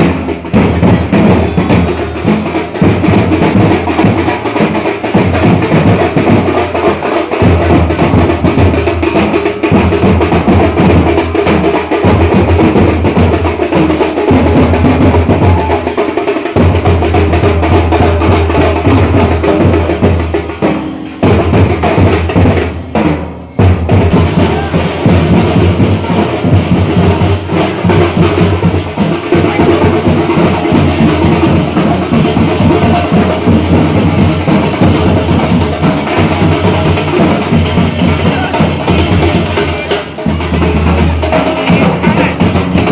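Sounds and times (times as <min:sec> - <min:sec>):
drum-led music: 0:00.0 - 0:42.9.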